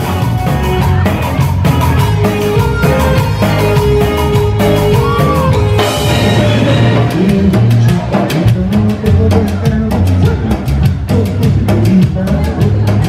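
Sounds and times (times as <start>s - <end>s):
bass line: 0.0s - 13.0s
drum kit beat: 0.0s - 13.0s.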